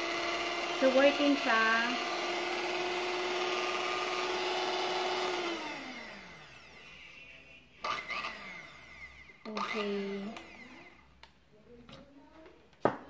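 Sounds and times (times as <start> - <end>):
hand mixer whining: 0.0 - 11.2.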